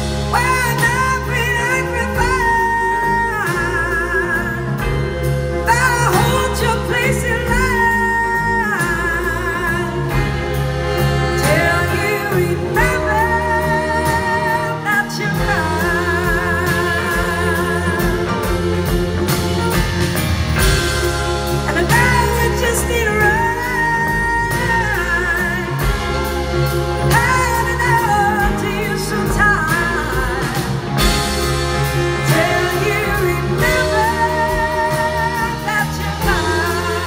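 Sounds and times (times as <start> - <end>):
woman singing: 0.0 - 20.0, 20.6 - 37.0
live band playing: 0.0 - 37.0.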